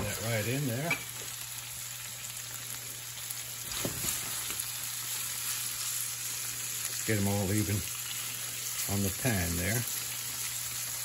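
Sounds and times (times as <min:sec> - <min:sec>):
shrimp sizzling in a frying pan: 0:00.0 - 0:11.0.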